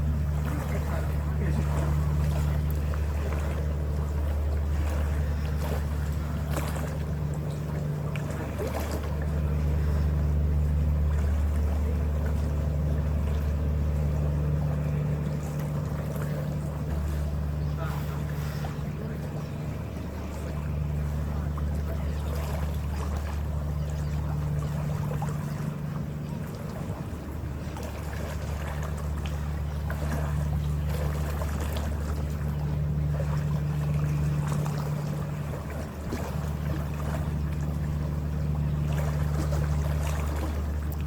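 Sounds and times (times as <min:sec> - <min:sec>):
ferry engine drone: 0:00.0 - 0:41.0
hum tone: 0:00.0 - 0:41.0
wind and water rushing: 0:00.0 - 0:41.0.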